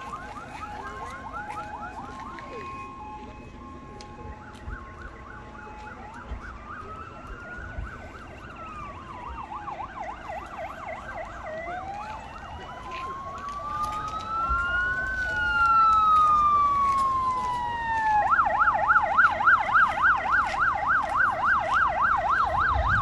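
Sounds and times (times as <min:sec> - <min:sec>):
rising and falling siren wail: 0:00.0 - 0:23.0.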